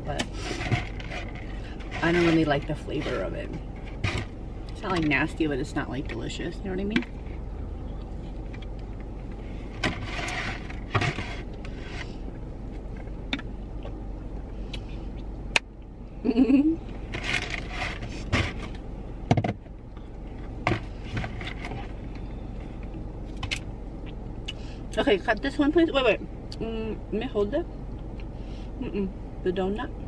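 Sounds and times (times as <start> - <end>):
low hum of car: 0.0 - 30.0.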